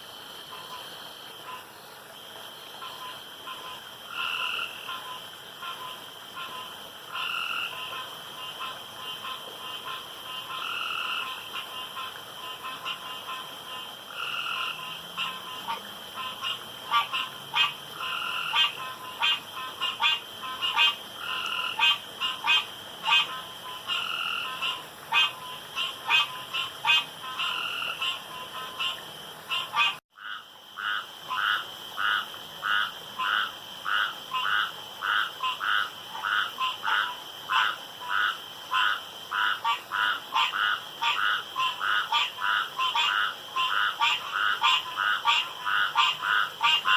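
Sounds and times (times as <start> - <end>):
frogs croaking: 0.0 - 46.9.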